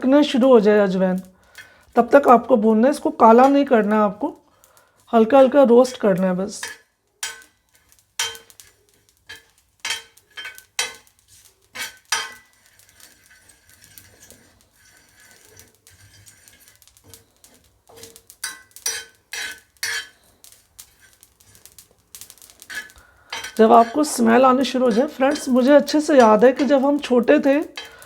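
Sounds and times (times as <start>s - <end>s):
utensil stirring seeds on griddle: 0.0s - 28.0s
metal clinking on griddle: 1.5s - 4.2s, 5.4s - 28.0s.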